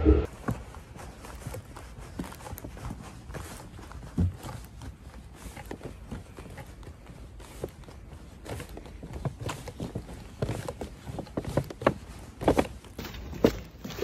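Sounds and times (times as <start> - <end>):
footsteps on pavement: 0.2 - 14.0.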